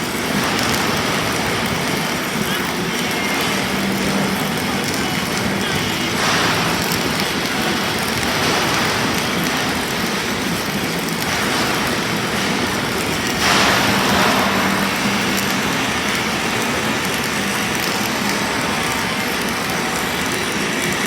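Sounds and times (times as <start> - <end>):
welding arc sizzling crackle: 0.0 - 21.0.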